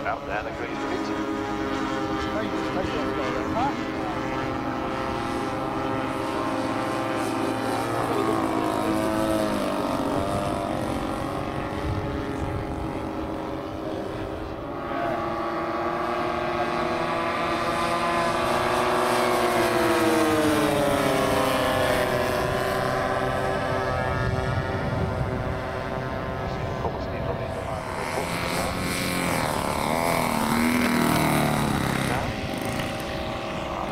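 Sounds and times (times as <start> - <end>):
model aircraft engines flying past: 0.0 - 33.9.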